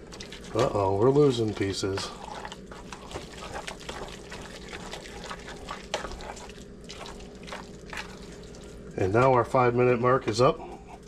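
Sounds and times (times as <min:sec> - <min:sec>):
food crackling and popping in pan: 0:00.0 - 0:09.3
low steady hum: 0:00.0 - 0:11.0.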